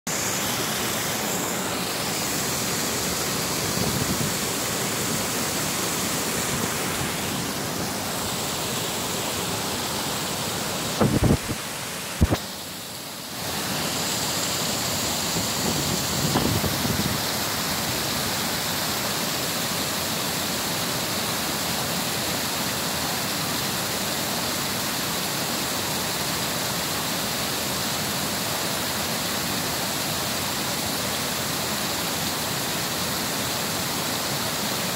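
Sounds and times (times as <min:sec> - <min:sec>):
water rushing over a weir: 0:00.1 - 0:34.9.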